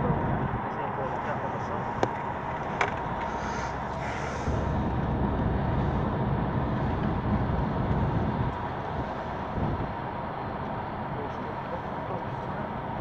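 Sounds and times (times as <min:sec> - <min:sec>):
car road noise from inside: 0:00.0 - 0:13.0.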